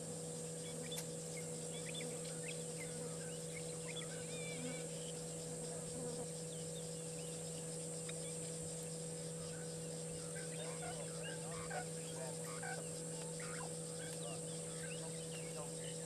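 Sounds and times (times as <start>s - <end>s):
electrical hum: 0.0s - 16.0s
high insect drone: 0.0s - 16.0s
wild bird calls: 0.6s - 16.0s.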